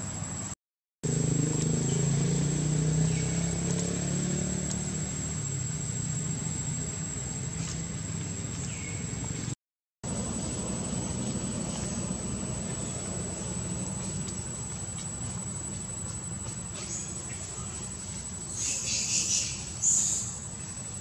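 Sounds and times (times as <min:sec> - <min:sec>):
high insect whine: 0:00.0 - 0:21.0
low vehicle engine drone: 0:00.0 - 0:21.0.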